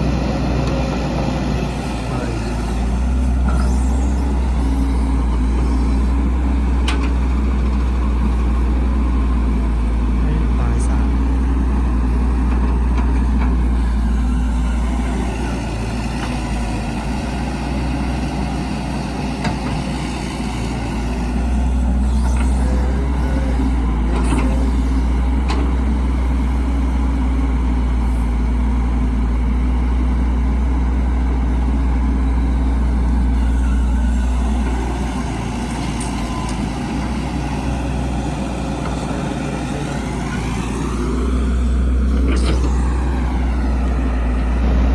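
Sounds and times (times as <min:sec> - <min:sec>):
heavy machinery diesel engine: 0:00.0 - 0:44.9.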